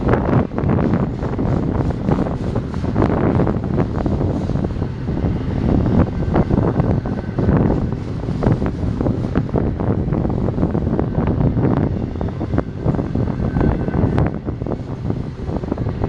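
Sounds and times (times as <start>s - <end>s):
train wheels rumbling on rail: 0.0s - 16.0s
wind buffeting microphone: 0.0s - 16.0s.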